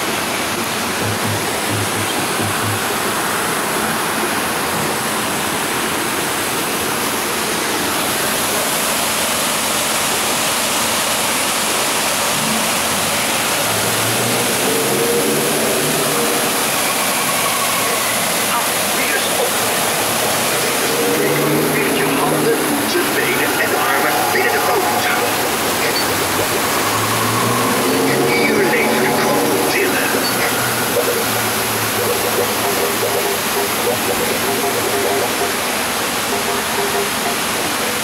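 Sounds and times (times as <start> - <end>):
waterfall pouring over concrete wall: 0.0 - 38.0.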